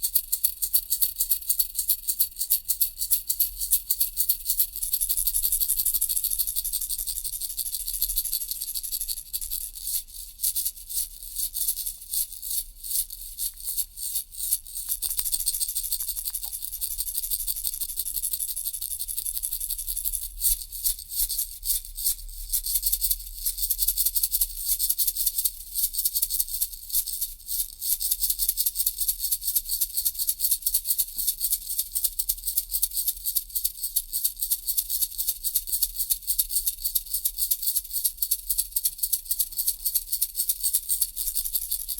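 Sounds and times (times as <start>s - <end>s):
toy rattle shaking: 0.0s - 41.9s.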